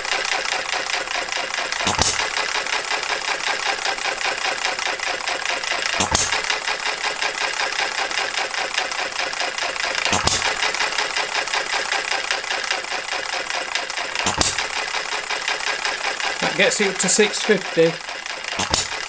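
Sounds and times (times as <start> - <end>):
model engine clattering: 0.0 - 19.0.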